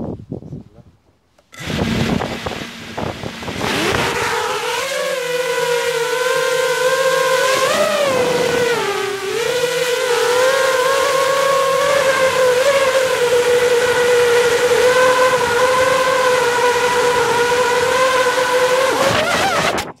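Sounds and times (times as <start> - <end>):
quadcopter motors whining: 1.4 - 20.0.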